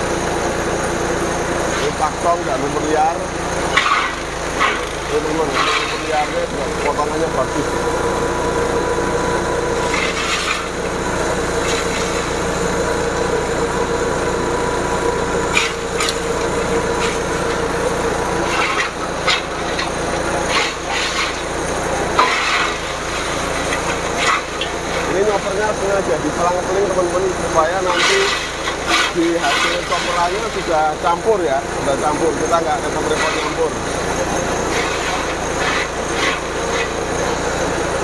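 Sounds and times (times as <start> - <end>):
forage chopper humming: 0.0 - 38.0.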